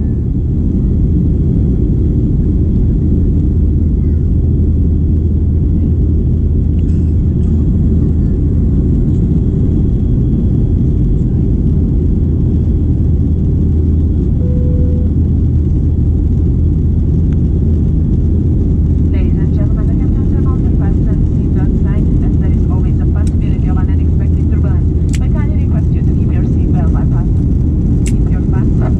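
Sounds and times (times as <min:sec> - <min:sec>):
airplane cabin rumble in flight: 0:00.0 - 0:28.9.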